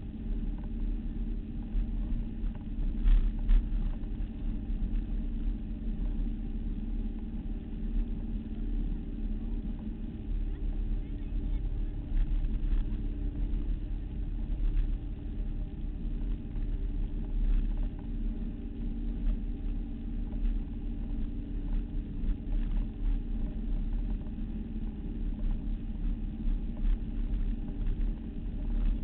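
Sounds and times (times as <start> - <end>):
motorboat engine droning: 0.0 - 29.0.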